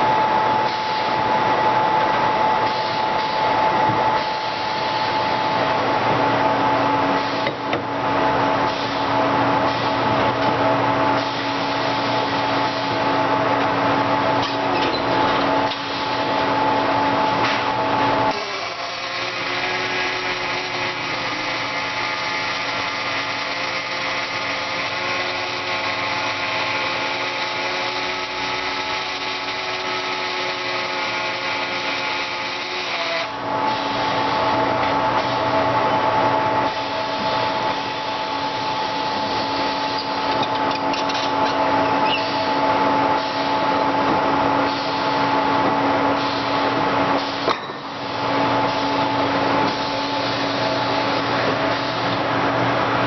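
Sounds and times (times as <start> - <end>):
welding machinery hum and hiss: 0.0 - 53.0.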